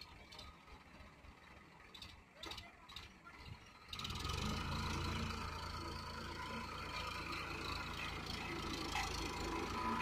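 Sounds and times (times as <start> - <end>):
tractor diesel engine working hard: 0.0 - 10.0.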